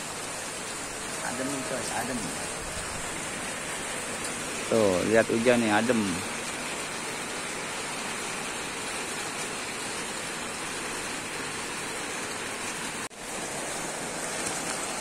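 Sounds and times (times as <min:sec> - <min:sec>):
heavy rain on pavement: 0:00.0 - 0:15.0.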